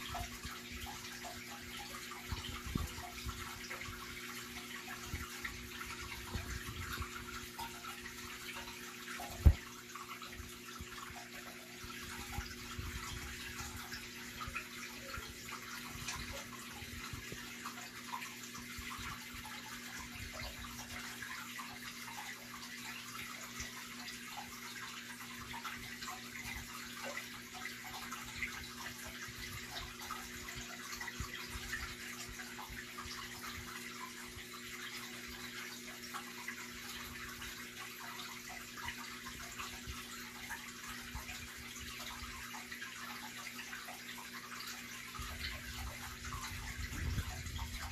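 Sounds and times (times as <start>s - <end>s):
faint pump hum: 0.0s - 47.9s
water trickling and splashing: 0.0s - 47.9s.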